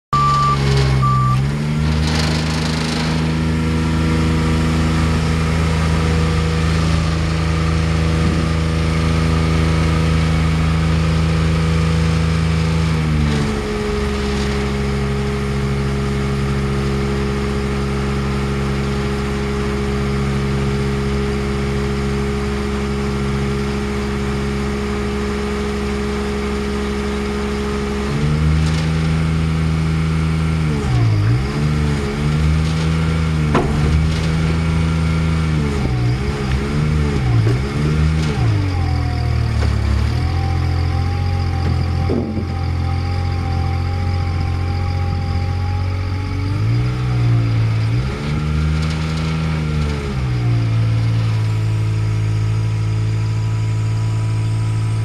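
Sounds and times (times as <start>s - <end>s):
truck engine running: 0.1s - 55.0s.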